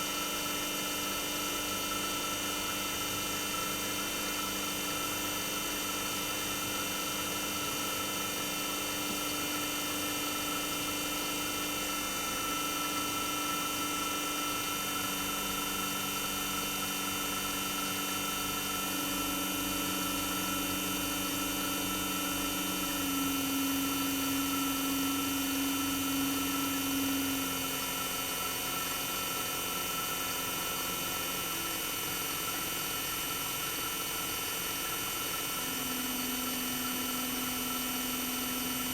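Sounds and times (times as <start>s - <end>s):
air conditioner compressor humming: 6.2s - 38.9s.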